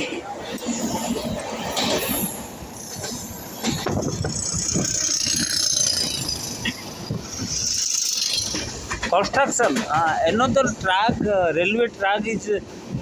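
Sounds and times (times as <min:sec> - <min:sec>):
train coach rattling and rumbling: 0:00.0 - 0:13.0.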